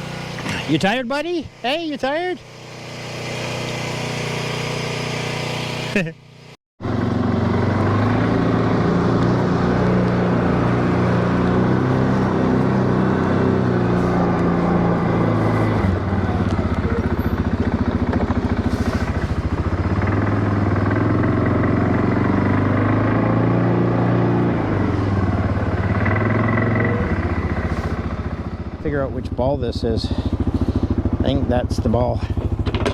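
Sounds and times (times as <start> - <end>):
atv engine running: 0.0 - 32.9.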